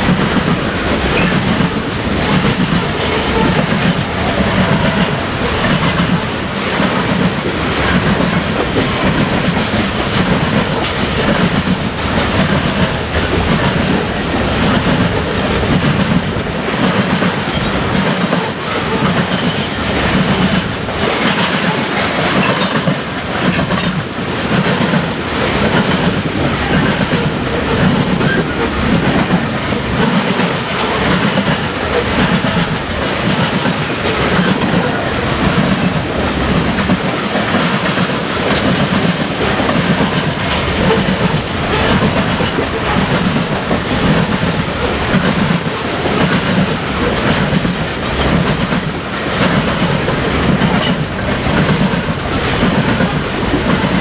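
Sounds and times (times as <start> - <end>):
freight train rumble: 0.0 - 54.0
train wheels clacking over rail joints: 0.0 - 54.0.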